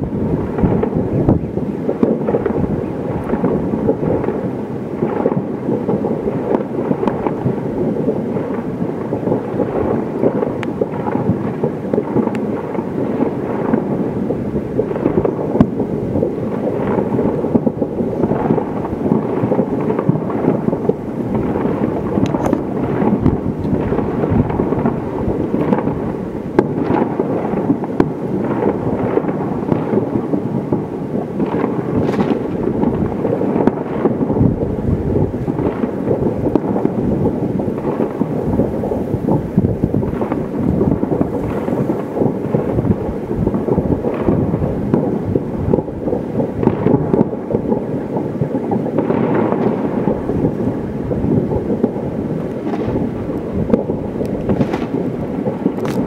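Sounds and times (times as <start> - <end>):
rumble of distant fireworks: 0.0 - 56.0.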